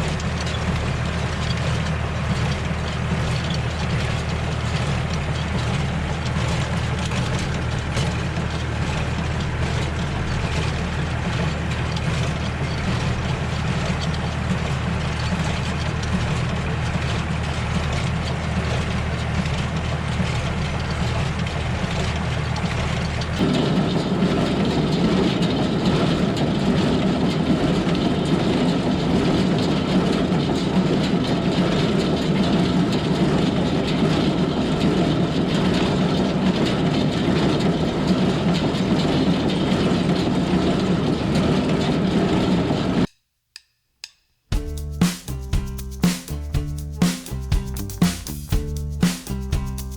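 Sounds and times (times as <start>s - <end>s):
tractor engine running: 0.0s - 43.1s, 44.5s - 49.9s.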